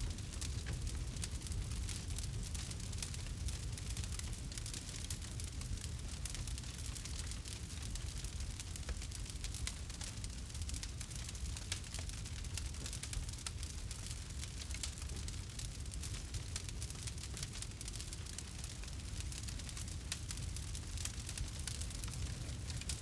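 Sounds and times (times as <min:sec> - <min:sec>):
campfire wood crackling: 0:00.0 - 0:23.0.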